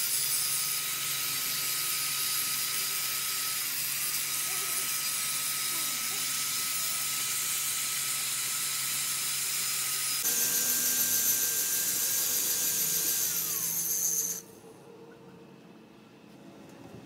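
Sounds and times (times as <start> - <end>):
angle grinder grinding steel: 0.0 - 14.5.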